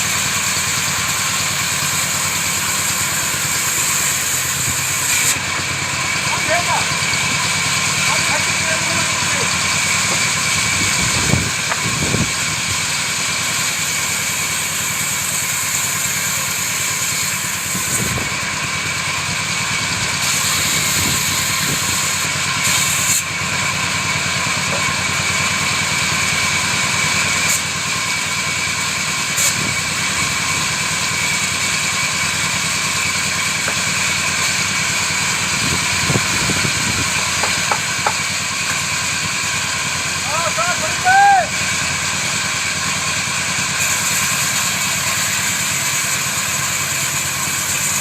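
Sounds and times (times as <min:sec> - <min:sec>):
woodworking machine whine: 0:00.0 - 0:48.0.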